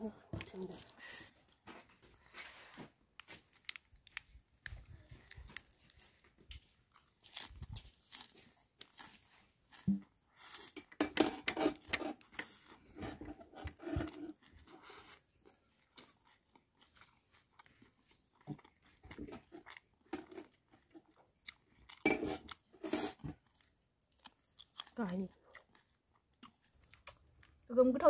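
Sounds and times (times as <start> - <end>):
person chewing crunchy food: 0.3 - 1.6, 2.2 - 27.7.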